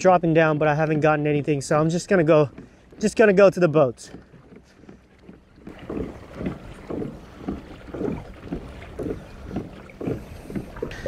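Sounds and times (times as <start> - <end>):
kayak paddle strokes swishing: 0.8 - 11.0.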